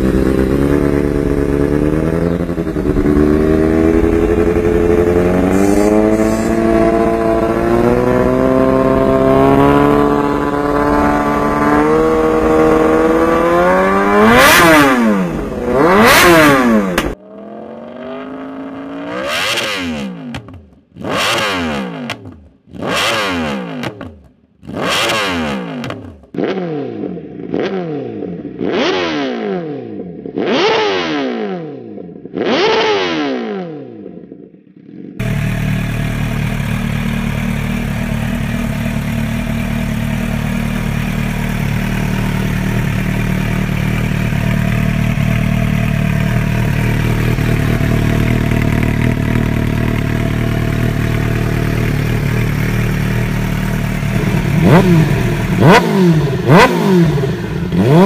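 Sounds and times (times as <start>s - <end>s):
motorcycle engine running: 0.0s - 30.9s, 33.9s - 58.0s
motorcycle engine revving: 0.0s - 58.0s.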